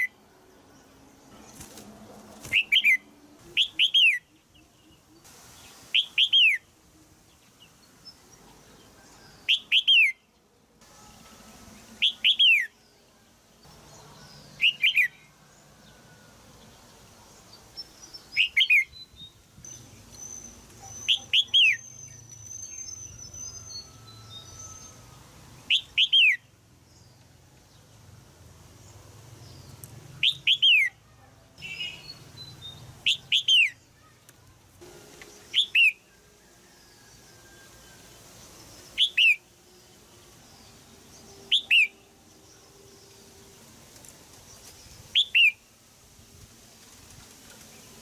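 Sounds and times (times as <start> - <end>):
bird chirping calls: 0.0 - 10.5, 11.7 - 27.2, 29.5 - 34.6, 35.2 - 43.6, 44.6 - 45.7.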